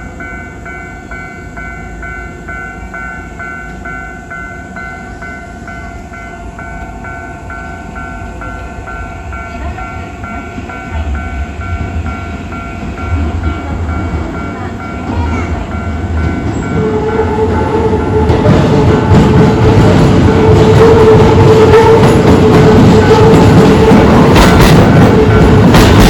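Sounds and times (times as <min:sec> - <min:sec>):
level-crossing alarm dinging: 0:00.0 - 0:26.0
train rumbling: 0:00.0 - 0:26.0.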